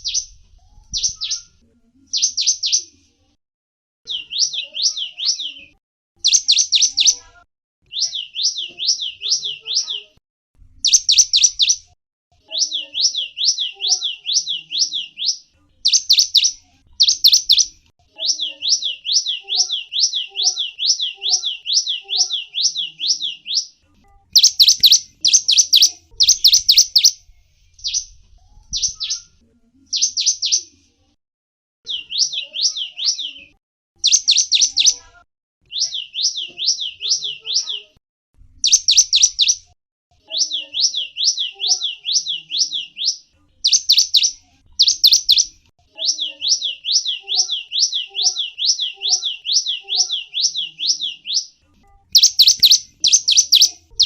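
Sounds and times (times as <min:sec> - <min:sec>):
songbird chirping: 0:00.0 - 0:03.1, 0:04.1 - 0:30.9, 0:31.9 - 0:38.0, 0:38.6 - 0:54.0.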